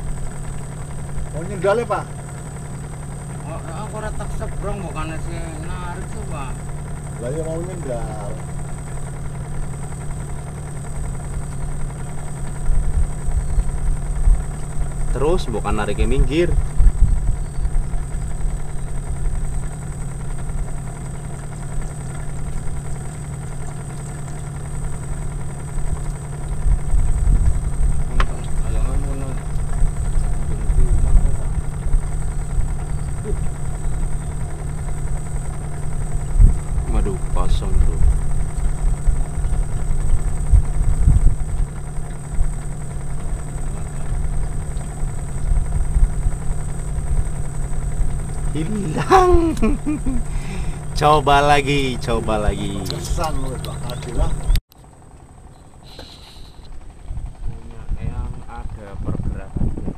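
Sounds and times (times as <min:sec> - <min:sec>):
boat engine idling: 0:00.0 - 0:59.9.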